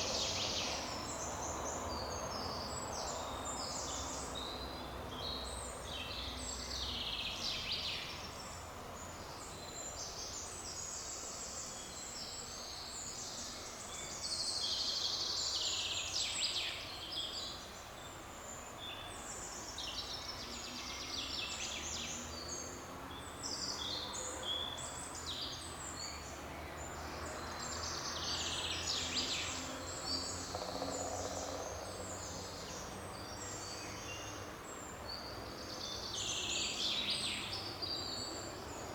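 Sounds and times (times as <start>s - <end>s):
forest ambience: 0.0s - 38.9s.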